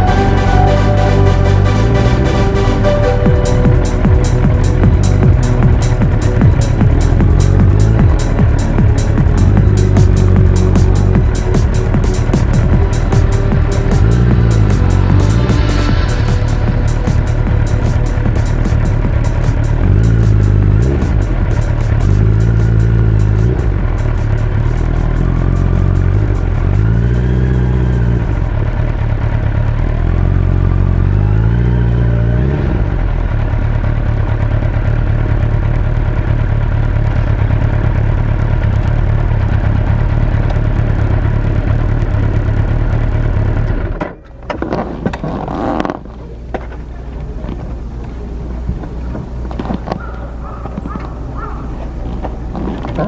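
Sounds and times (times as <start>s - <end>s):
motorcycle engine revving: 3.4s - 46.1s.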